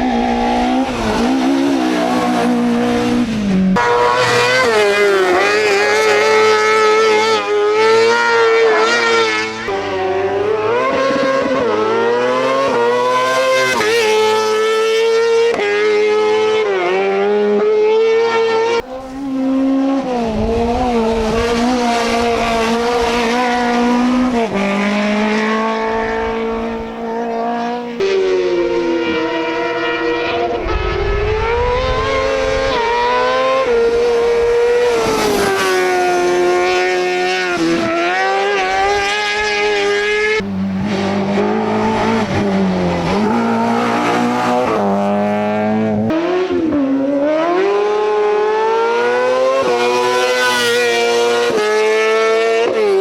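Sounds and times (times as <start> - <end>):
race car engines revving: 0.0 - 53.0.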